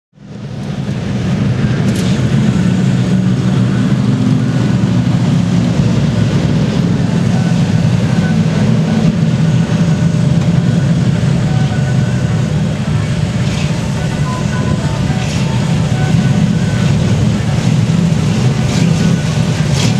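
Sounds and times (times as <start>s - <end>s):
race car engines at speed: 0.2s - 19.9s.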